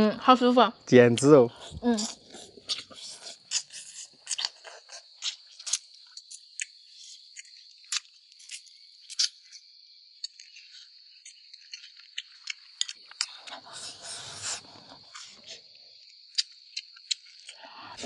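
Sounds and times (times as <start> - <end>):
insects chirring: 0.0 - 18.0
person chewing and crunching: 1.2 - 9.6, 10.2 - 17.6.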